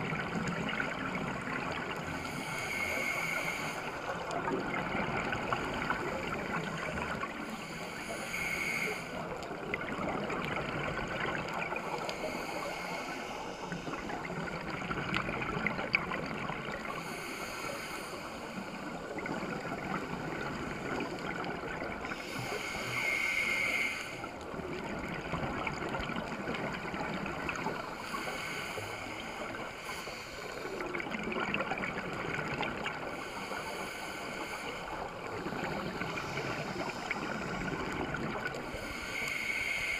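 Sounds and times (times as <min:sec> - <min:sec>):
underwater rush: 0:00.0 - 0:39.9
scuba regulator breathing: 0:01.6 - 0:09.6, 0:10.2 - 0:15.9, 0:16.8 - 0:24.4, 0:27.5 - 0:31.1, 0:32.7 - 0:39.9.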